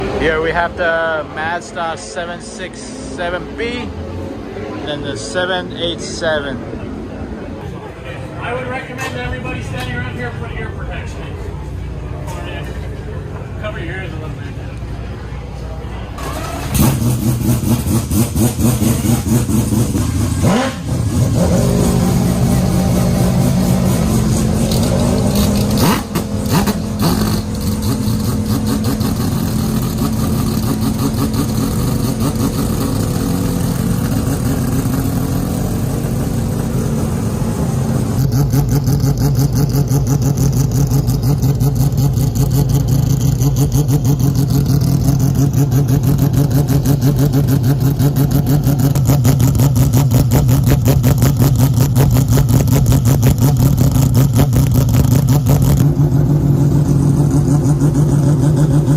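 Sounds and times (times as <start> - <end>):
rotary racing engine idling: 7.1 - 58.9.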